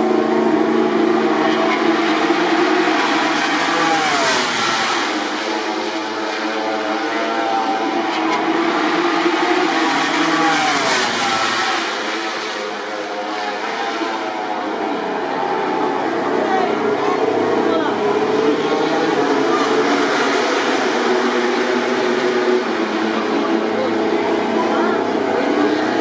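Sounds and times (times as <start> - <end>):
background engines running: 0.0 - 26.0
racing motorcycles passing: 0.0 - 26.0.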